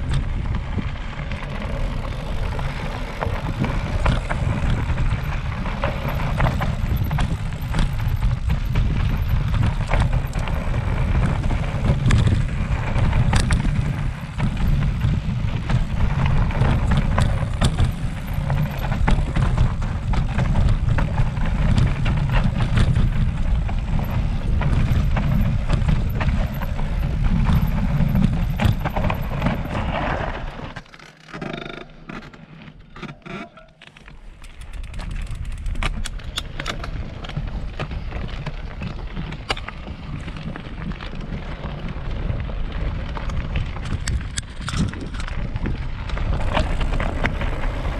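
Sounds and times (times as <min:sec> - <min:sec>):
mountain bike rumbling and clattering: 0:00.0 - 0:47.9.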